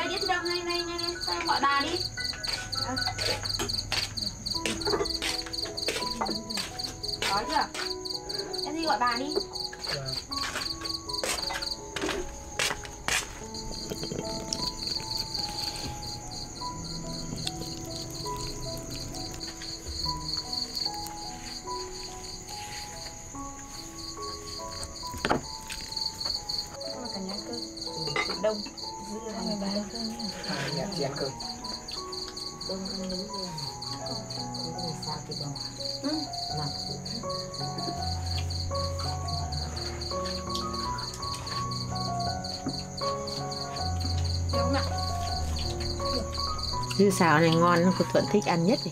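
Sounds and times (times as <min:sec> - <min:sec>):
crickets chirping: 0:00.0 - 0:48.9
high insect trill: 0:00.0 - 0:48.9
soft instrumental music: 0:00.0 - 0:48.9.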